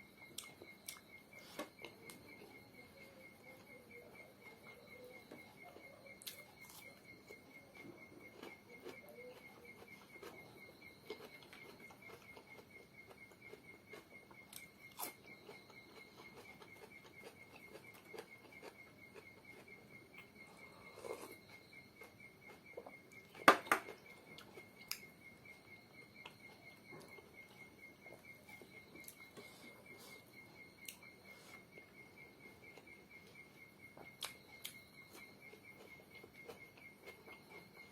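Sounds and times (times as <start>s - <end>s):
insect trill: 0.0s - 37.9s.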